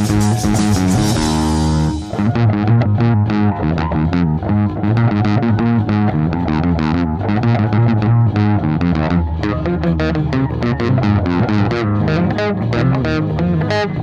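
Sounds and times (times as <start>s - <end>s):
distorted electric guitar riff: 0.0s - 14.0s.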